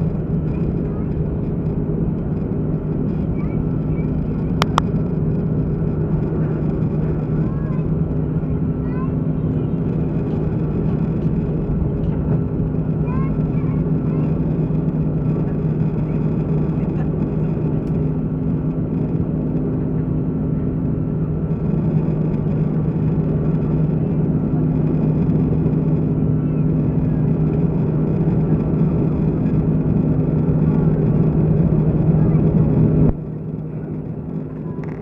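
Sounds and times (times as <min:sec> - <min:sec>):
airplane cabin engine drone: 0:00.0 - 0:35.0.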